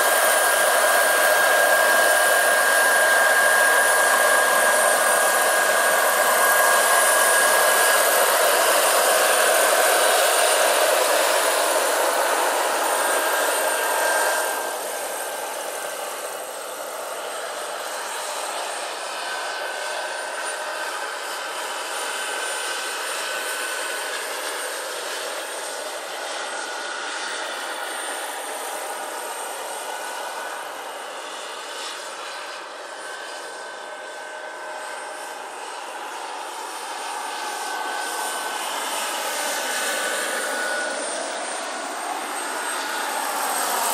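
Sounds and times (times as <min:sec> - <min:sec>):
model helicopter turbine whine: 0:00.0 - 0:43.9.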